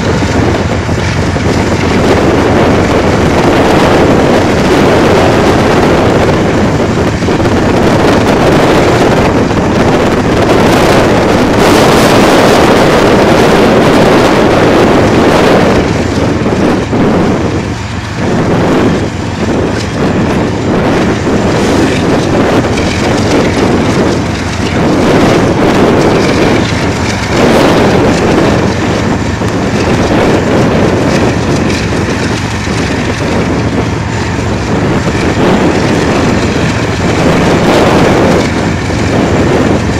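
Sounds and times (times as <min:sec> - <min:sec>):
diesel locomotive engine rumble: 0:00.0 - 0:39.9
wind buffeting microphone: 0:00.0 - 0:39.9.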